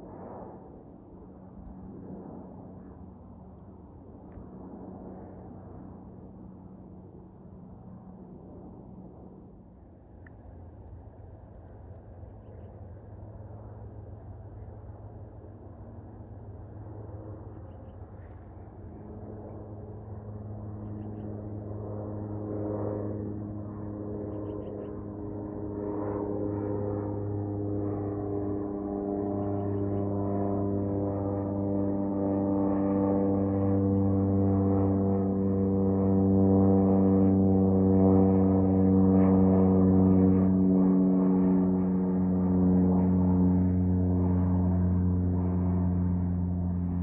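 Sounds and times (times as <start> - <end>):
propeller airplane engine drone: 0.0 - 47.0.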